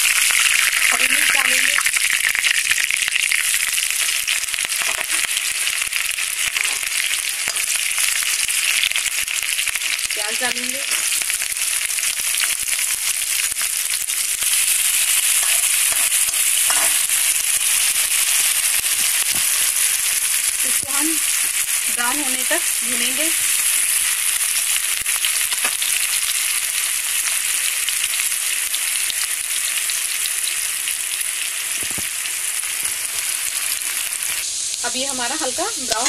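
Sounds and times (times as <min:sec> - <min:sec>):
hot oil sizzling and crackling: 0:00.0 - 0:36.0.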